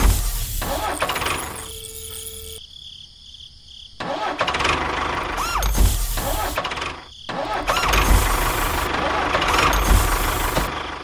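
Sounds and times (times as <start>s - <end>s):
tractor engine starting and running: 0.0s - 2.6s, 4.0s - 11.0s.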